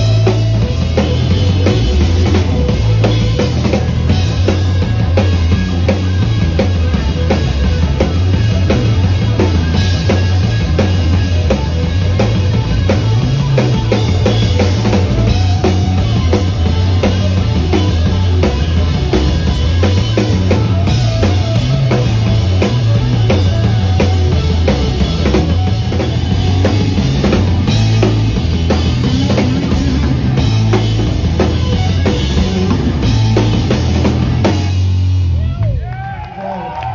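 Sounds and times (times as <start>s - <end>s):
drum kit beat: 0.0s - 35.6s
live rock band playing: 0.0s - 36.9s.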